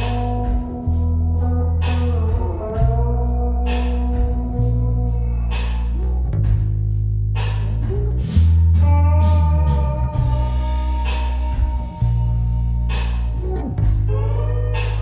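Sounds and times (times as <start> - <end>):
blues-rock music: 0.0 - 15.0.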